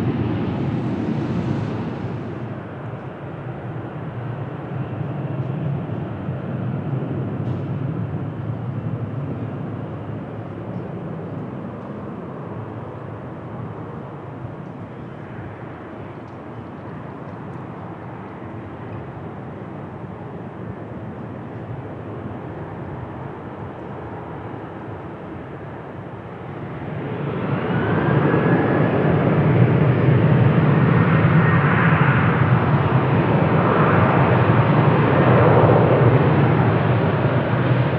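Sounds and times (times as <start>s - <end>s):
jet engines rumbling: 0.0s - 37.9s.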